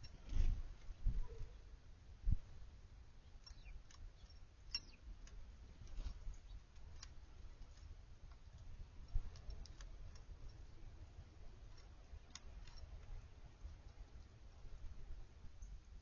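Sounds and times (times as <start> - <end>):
small birds chipping: 0.0 - 16.0
steady low rumble: 0.0 - 16.0.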